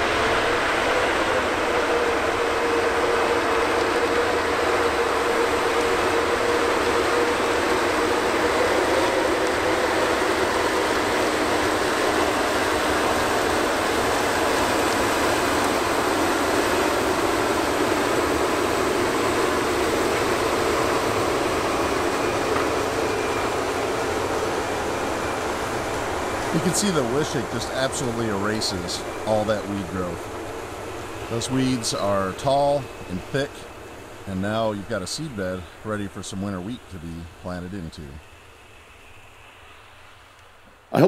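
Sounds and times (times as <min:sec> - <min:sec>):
tractor engine drone under load: 0:00.0 - 0:39.5.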